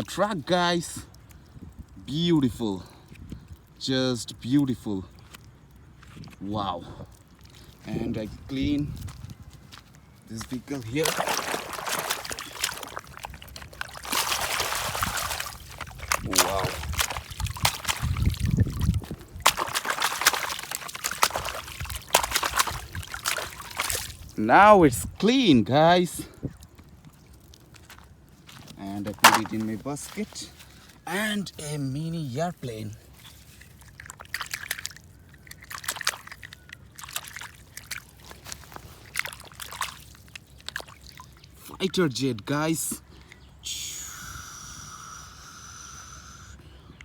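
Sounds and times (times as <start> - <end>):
water dripping: 0.0 - 30.9, 33.1 - 43.3
water splashing and trickling: 0.0 - 43.4.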